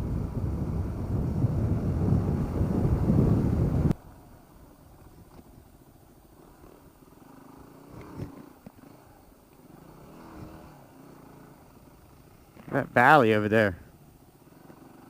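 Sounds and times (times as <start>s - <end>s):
muffled motorcycle engine drone: 0.0s - 15.0s.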